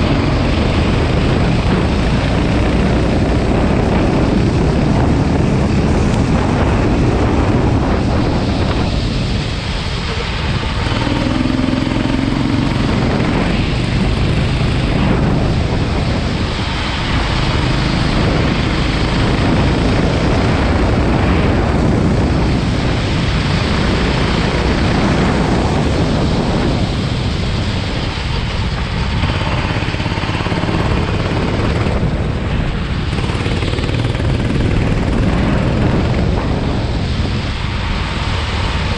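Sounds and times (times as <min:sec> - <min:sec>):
go-kart engine revving: 0:00.0 - 0:37.3.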